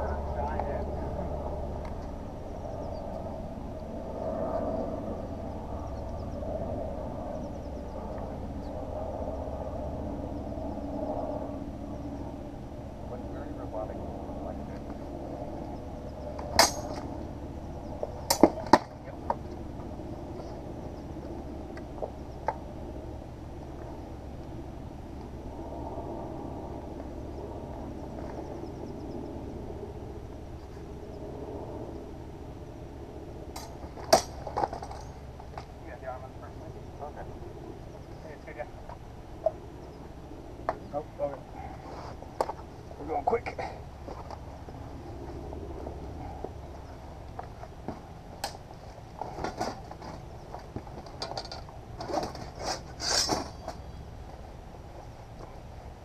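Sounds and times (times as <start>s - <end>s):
outdoor background rumble: 0.0s - 56.0s.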